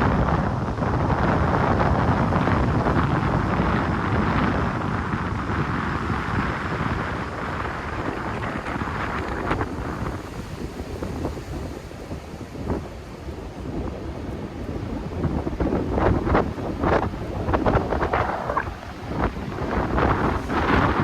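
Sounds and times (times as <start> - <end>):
wind buffeting microphone: 0.0 - 21.0
sea surf rushing: 2.1 - 21.0.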